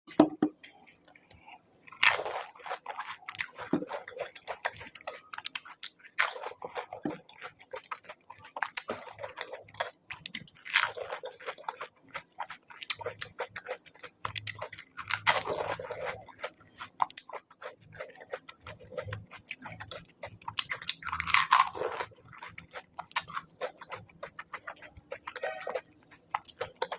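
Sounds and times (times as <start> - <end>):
crunching and chewing crisp shells: 0.6 - 26.9.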